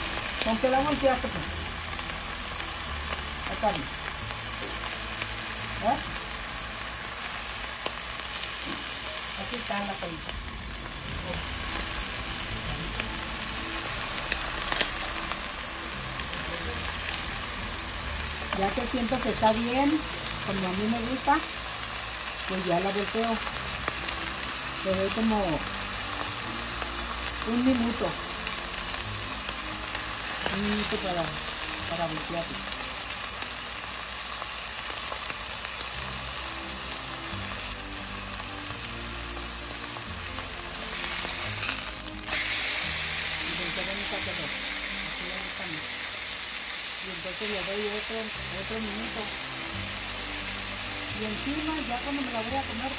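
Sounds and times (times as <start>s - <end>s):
steak sizzling in a skillet: 0.0s - 52.9s.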